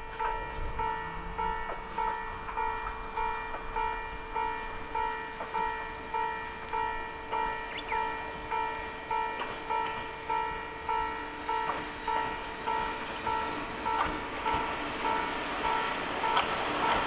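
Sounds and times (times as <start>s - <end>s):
approaching train: 0.0s - 17.0s.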